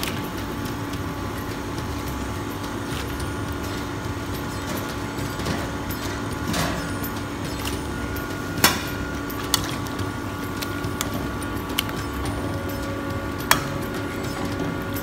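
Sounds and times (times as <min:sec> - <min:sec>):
kitchen hum: 0:00.0 - 0:15.0.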